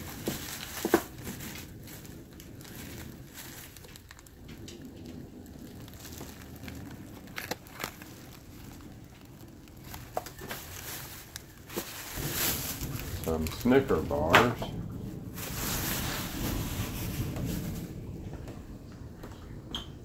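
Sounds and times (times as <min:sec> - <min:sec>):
plastic bags rustling: 0:00.0 - 0:19.4
sharp plastic crackles: 0:00.0 - 0:20.0.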